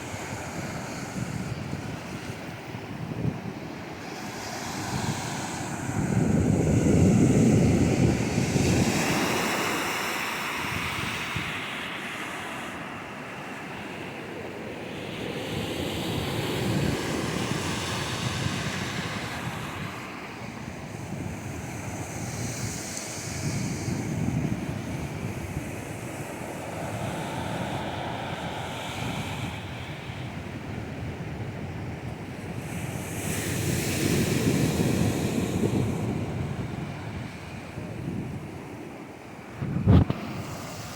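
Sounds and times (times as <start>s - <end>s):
wind buffeting microphone: 0.0s - 11.7s, 15.3s - 40.9s
ocean surf breaking on beach: 0.0s - 40.9s.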